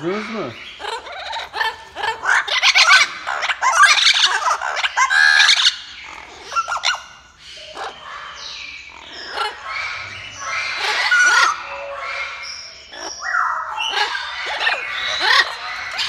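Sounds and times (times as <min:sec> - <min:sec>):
parrots squawking and screeching: 0:00.0 - 0:16.0.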